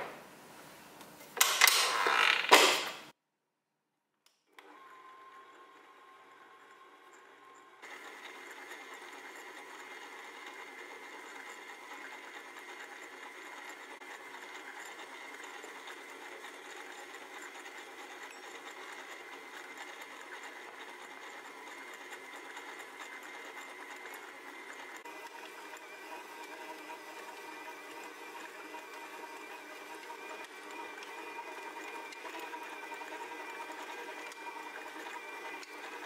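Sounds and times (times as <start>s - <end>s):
stand mixer whining: 4.5s - 36.0s.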